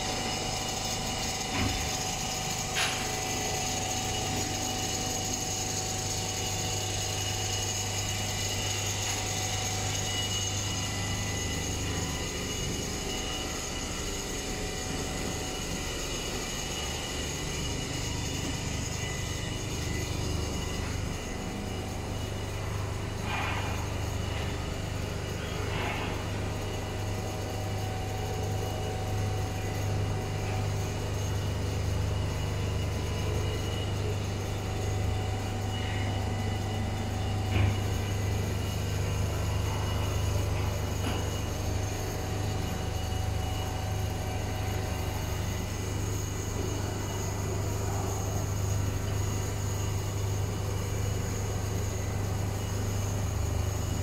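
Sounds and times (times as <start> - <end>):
quilting machine humming: 0.0 - 54.0.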